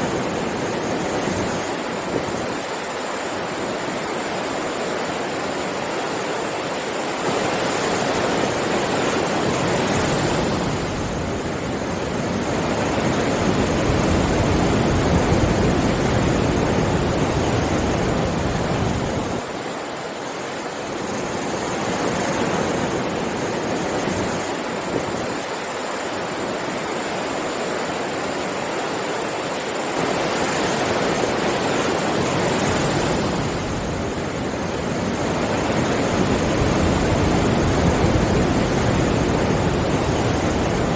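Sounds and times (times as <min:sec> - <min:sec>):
sea surf breaking on shore: 0:00.0 - 0:40.9.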